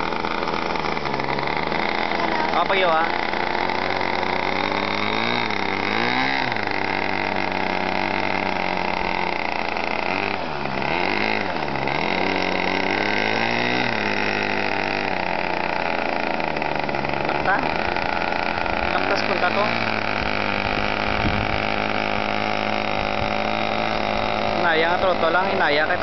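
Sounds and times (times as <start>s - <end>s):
model airplane engine running: 0.0s - 26.0s.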